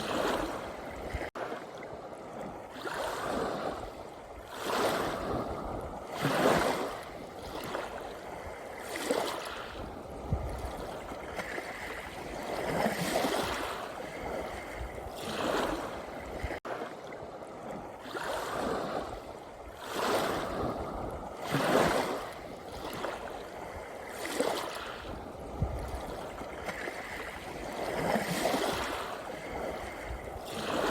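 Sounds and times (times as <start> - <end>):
sea waves washing on shore: 0.0 - 30.9.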